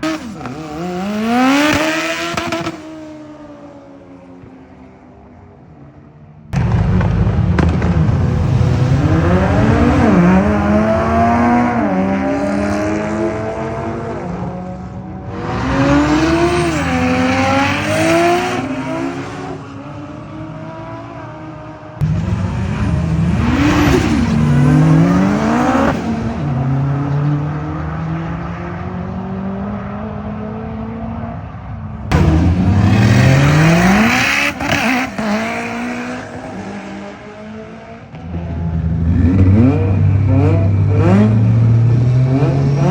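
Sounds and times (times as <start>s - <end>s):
car engines accelerating hard: 0.0s - 4.5s, 6.6s - 42.9s.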